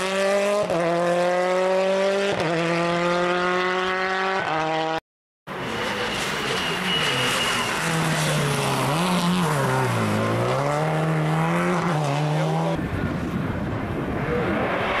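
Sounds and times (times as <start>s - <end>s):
rally car engine revving: 0.0s - 12.8s
noisy rally car engine: 0.0s - 15.0s.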